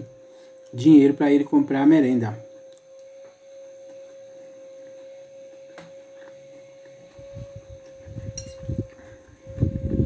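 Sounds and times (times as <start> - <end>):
steady high-pitched hum: 0.0 - 10.0.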